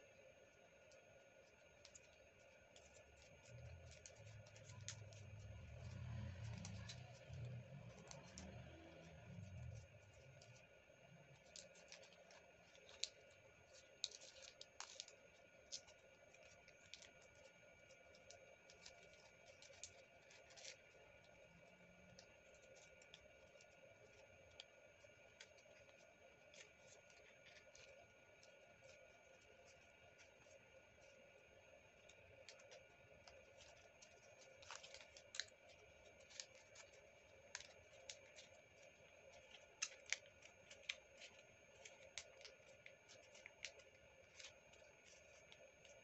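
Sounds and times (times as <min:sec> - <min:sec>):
faint steady hum: 0:00.0 - 0:46.0
paper being folded: 0:00.9 - 0:46.0.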